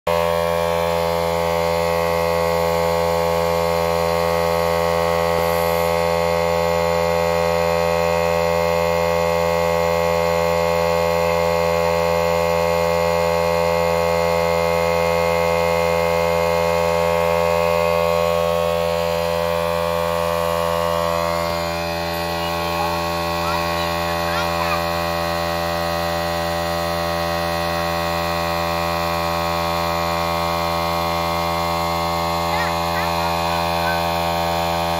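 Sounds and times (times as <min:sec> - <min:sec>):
electric air pump humming: 0:00.1 - 0:34.9.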